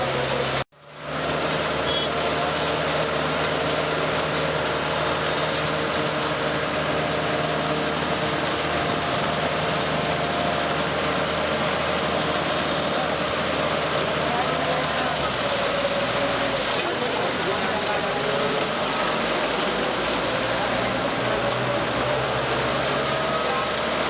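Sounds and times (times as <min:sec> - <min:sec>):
engine-like drone: 0:00.0 - 0:24.0.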